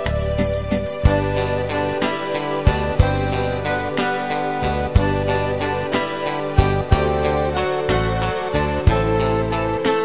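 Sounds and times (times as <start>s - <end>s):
bass notes: 0.0s - 6.0s, 6.6s - 10.0s
sustained keyboard chords: 0.0s - 10.0s.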